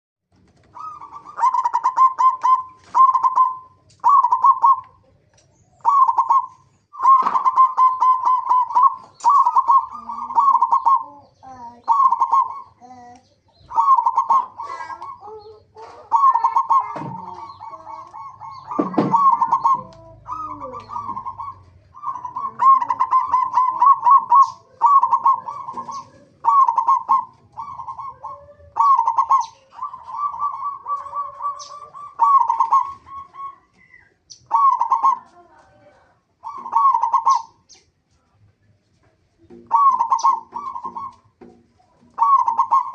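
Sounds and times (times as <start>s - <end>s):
dove cooing: 0.4s - 37.7s, 39.4s - 42.9s
birds gliding calls: 0.4s - 38.3s, 39.3s - 42.9s.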